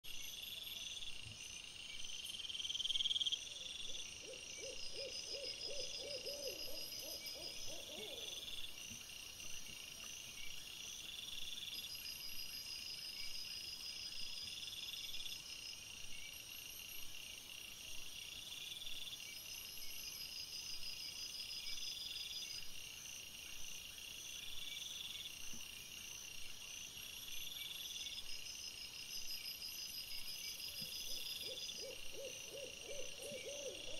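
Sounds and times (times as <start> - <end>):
insects trilling: 0.1 - 33.9
longer insect call: 0.1 - 33.9.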